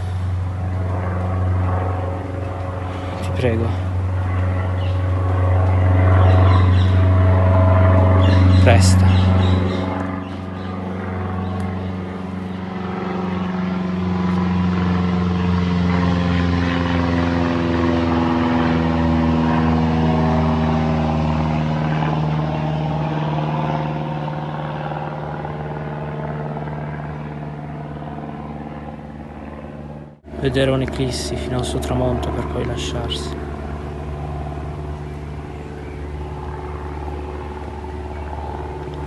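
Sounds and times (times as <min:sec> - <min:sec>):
engine-like low drone: 0:00.0 - 0:39.0.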